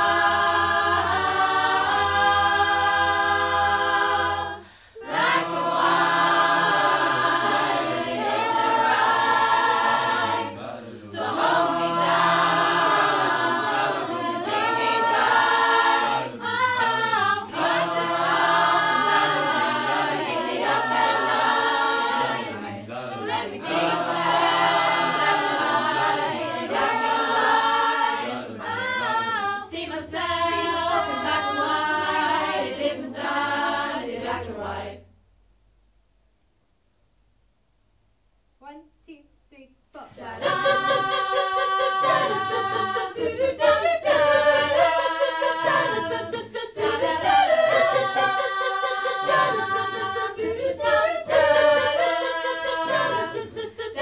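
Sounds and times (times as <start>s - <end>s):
mixed choir singing a cappella: 0.0s - 35.1s, 40.1s - 54.0s.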